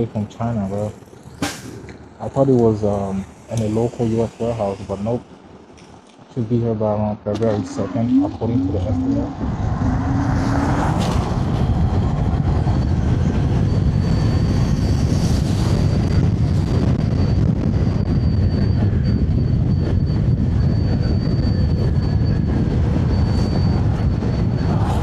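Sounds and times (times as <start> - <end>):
thin high whine: 0.0 - 5.3, 6.4 - 25.0
road noise: 0.0 - 25.0
wind buffeting microphone: 0.0 - 25.0.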